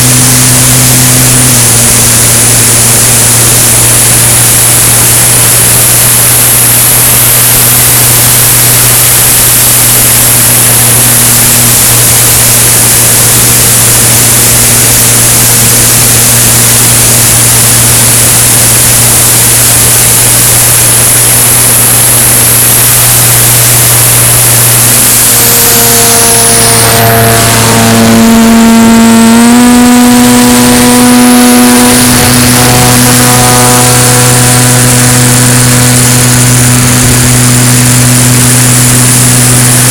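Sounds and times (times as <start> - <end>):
higher engine tones rising: 0.0 - 39.9
light aircraft engine droning: 0.0 - 39.9.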